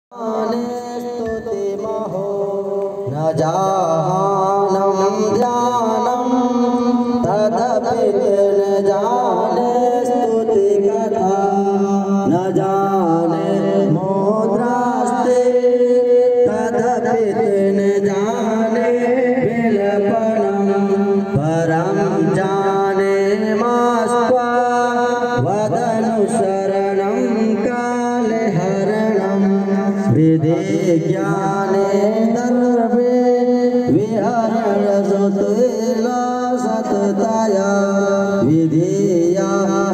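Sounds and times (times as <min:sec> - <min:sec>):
person singing devotional song: 0:00.1 - 0:39.9
steady held drone: 0:00.2 - 0:35.7.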